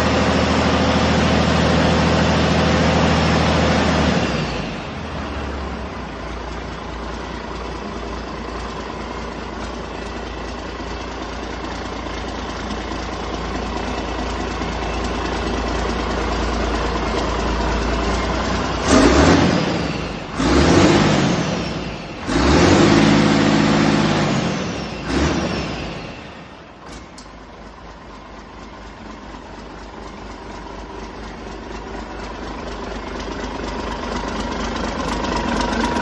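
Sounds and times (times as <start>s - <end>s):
diesel engine idling and revving: 0.0s - 36.0s.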